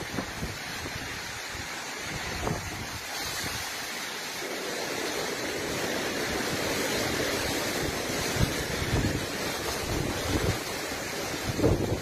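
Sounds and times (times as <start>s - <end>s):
strong wind blowing: 0.0s - 3.8s, 4.4s - 12.0s
wind buffeting microphone: 0.0s - 3.8s, 4.4s - 12.0s.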